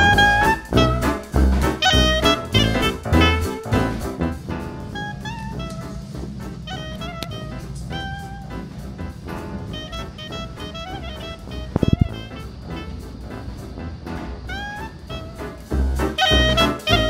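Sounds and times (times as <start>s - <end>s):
background music with sliding notes: 0.0s - 17.0s.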